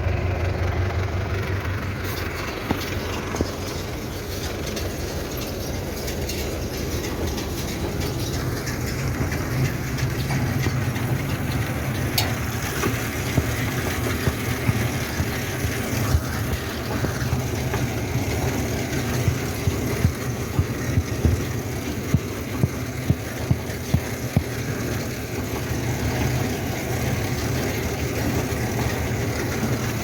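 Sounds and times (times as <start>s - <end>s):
tractor engine rumble: 0.0s - 30.0s
baler clacking and knocking: 0.1s - 30.0s.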